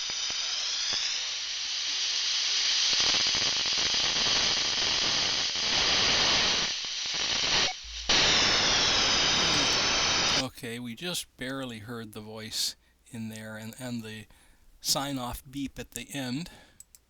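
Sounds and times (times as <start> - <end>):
radio static hiss: 0.0 - 10.6, 12.5 - 16.6.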